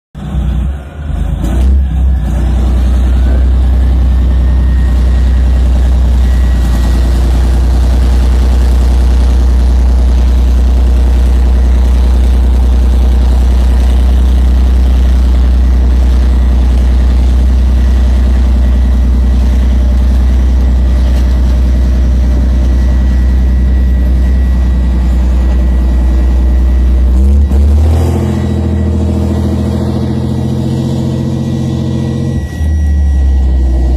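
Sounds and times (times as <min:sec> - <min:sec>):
tank diesel engine droning: 0:00.2 - 0:33.9.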